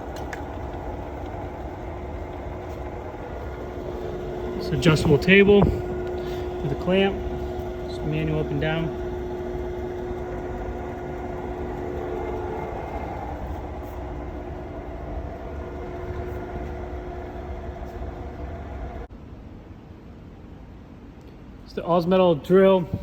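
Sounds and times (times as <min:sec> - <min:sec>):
drill press humming: 0:00.0 - 0:19.1.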